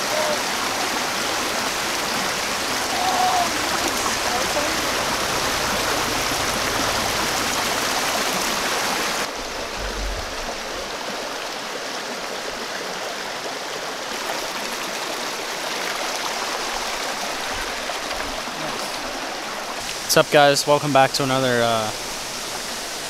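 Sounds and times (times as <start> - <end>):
mountain stream rushing over rocks: 0.0 - 23.0.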